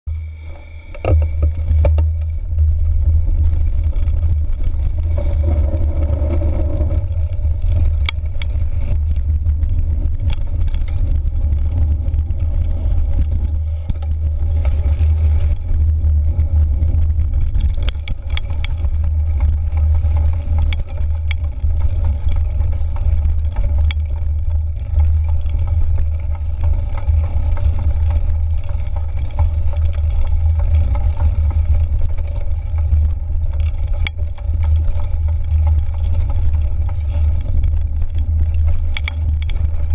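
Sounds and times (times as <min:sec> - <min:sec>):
bike clicks and rattles: 0:00.5 - 0:39.9
wind buffeting the microphone: 0:00.9 - 0:39.9.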